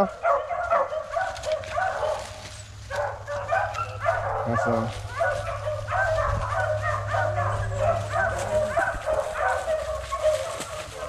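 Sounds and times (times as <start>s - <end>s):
dogs yipping and barking: 0.0s - 11.0s.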